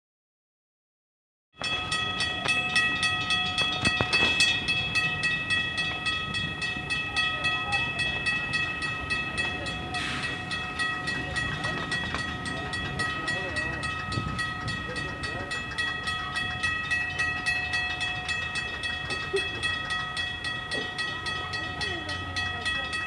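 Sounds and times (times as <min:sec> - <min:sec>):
electric train high whine: 0:01.6 - 0:23.0.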